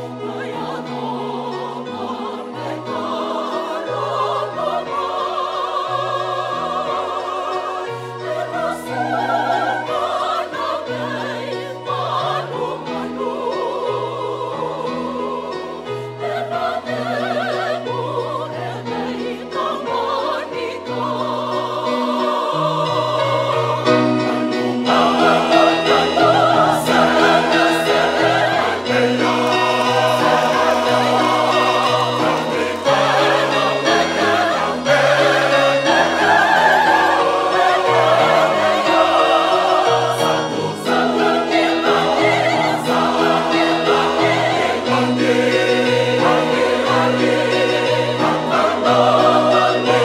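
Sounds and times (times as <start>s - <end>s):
mixed choir singing: 0.0s - 50.0s.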